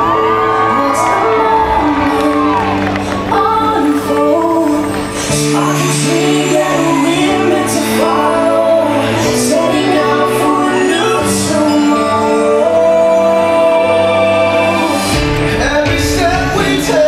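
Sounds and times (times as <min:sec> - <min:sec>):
soundtrack music with singing: 0:00.0 - 0:17.0.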